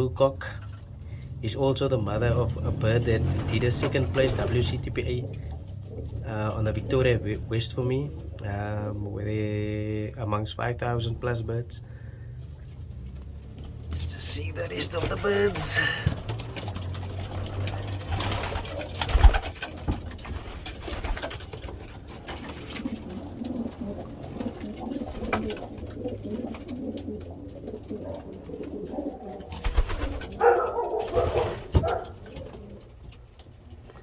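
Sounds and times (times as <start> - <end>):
pigeons cooing: 0.0 - 10.2, 13.9 - 34.0.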